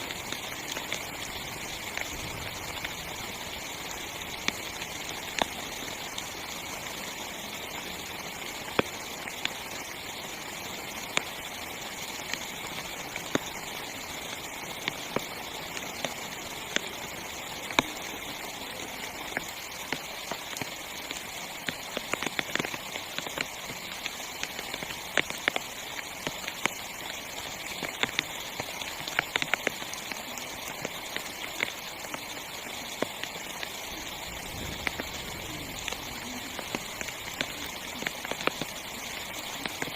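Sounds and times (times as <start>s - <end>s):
rain hissing on tent: 0.0s - 39.9s
raindrops tapping tent fabric: 0.0s - 39.9s.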